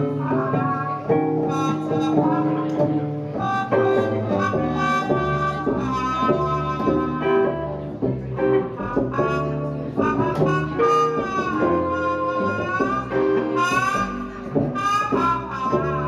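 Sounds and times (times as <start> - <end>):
bending held lead notes: 0.0 - 16.0
jazz blues band playing: 0.0 - 16.0.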